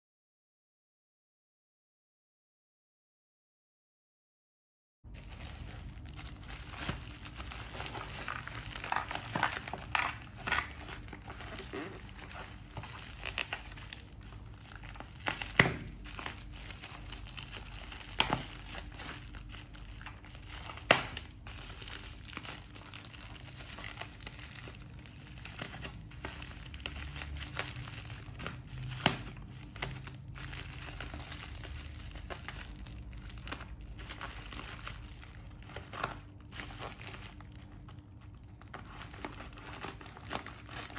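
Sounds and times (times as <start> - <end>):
plastic wrap crinkling: 5.1 - 40.9.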